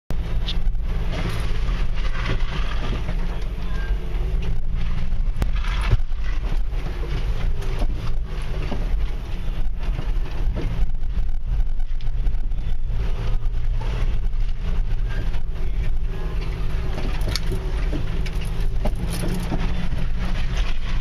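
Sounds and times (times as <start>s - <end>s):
low engine rumble inside vehicle: 0.1s - 21.0s
knocks and rattles from bumps: 0.6s - 13.6s, 14.4s - 21.0s.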